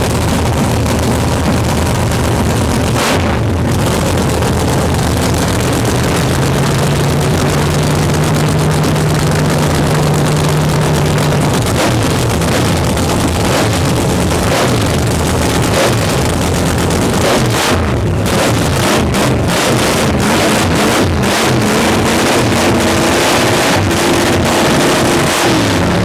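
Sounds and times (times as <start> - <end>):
dragster engine idling loudly: 0.0 - 26.0.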